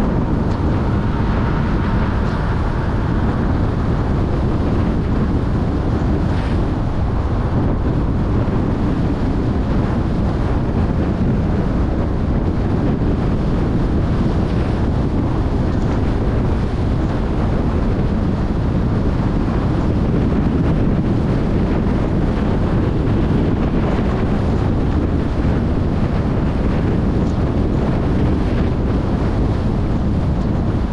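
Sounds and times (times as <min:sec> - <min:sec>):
wind and road noise in car: 0:00.0 - 0:30.9.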